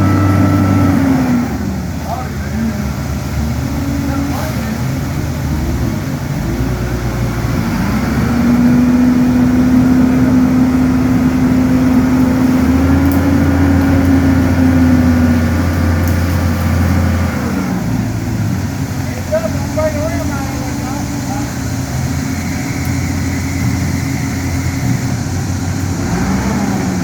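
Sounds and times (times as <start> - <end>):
engine revving: 0.0 - 27.0
low engine rumble: 0.0 - 27.0.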